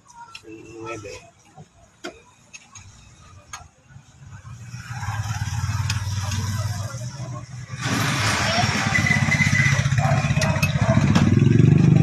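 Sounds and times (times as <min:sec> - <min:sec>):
engine rumbling: 0:01.6 - 0:12.0.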